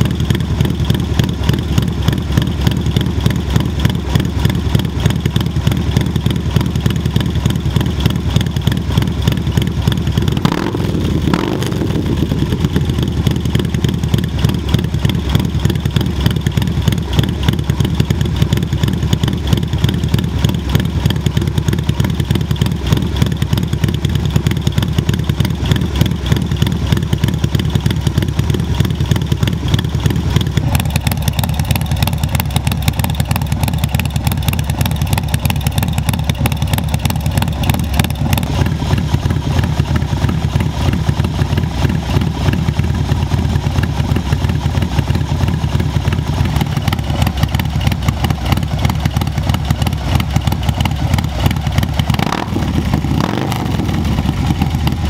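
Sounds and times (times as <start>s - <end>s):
motorcycle engine idling: 0.0s - 55.0s
motorcycle engine revving: 0.0s - 55.0s.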